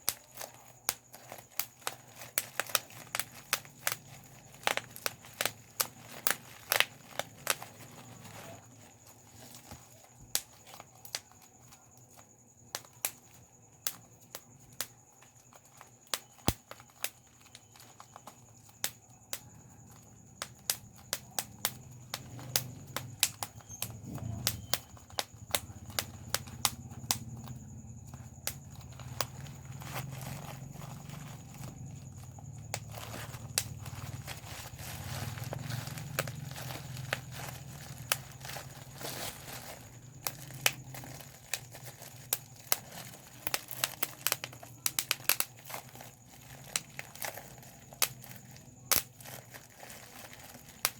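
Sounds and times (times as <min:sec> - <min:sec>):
bubble wrap popping: 0:00.0 - 0:50.9.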